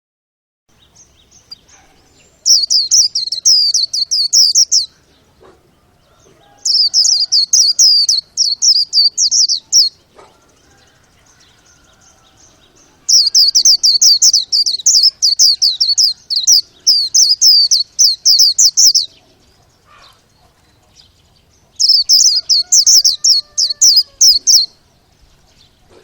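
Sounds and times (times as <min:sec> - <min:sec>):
bird singing rapid high chirps: 0:00.7 - 0:05.3, 0:05.9 - 0:25.0.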